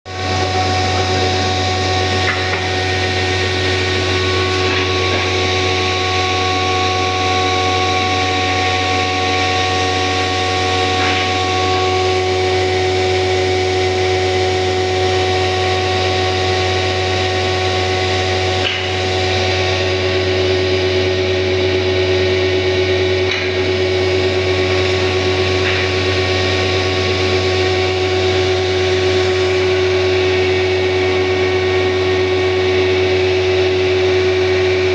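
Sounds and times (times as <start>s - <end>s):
power tool running on wood: 0.1s - 34.9s.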